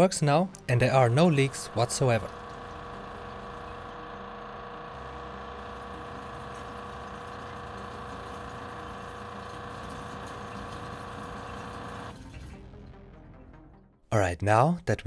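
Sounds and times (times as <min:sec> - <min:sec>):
electric water pump humming: 0:00.0 - 0:13.4.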